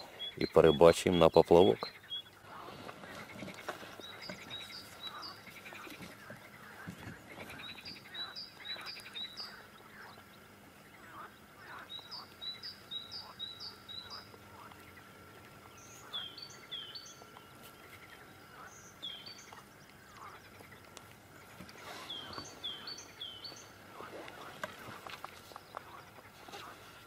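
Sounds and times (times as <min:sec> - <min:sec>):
lower bird call: 0:00.0 - 0:27.0
small birds chirping: 0:00.0 - 0:27.0.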